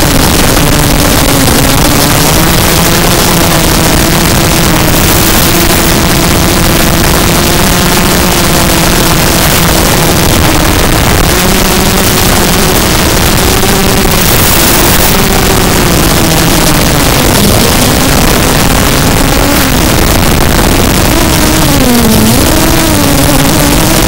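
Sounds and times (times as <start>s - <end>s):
quadcopter motors humming: 0.0s - 24.0s.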